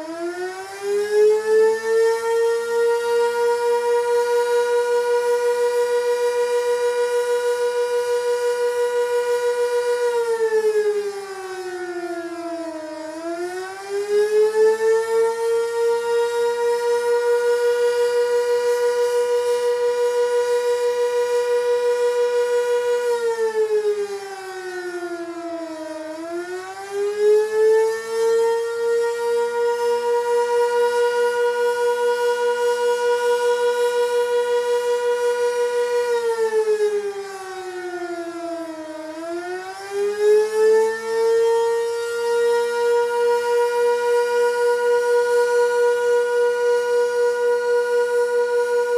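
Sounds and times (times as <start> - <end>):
warning siren wailing: 0.0 - 48.9.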